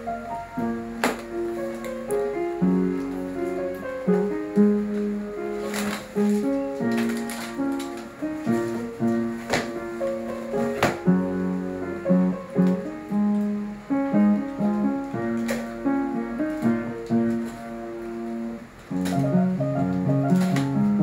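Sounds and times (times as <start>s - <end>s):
light instrumental music: 0.0s - 21.0s.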